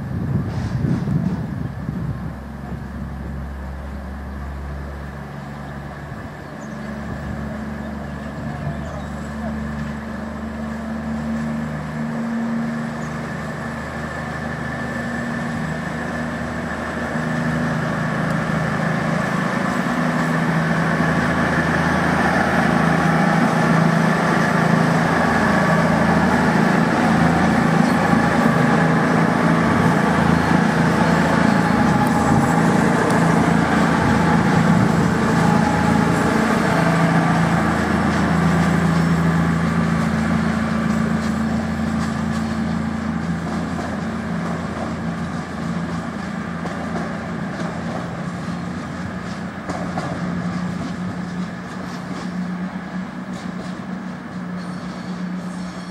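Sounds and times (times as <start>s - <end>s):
diesel train engine humming: 0.0s - 55.9s.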